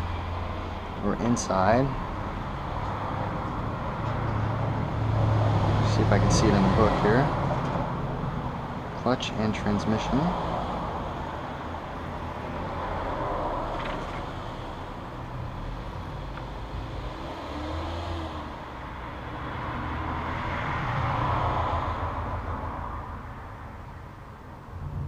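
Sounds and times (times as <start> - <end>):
vehicles passing by: 0.0 - 25.0.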